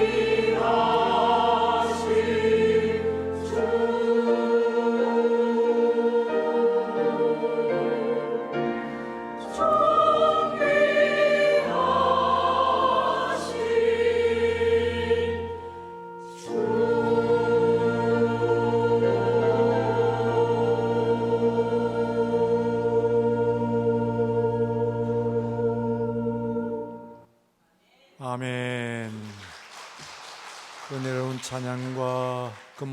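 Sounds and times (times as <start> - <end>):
choir singing: 0.0 - 27.3.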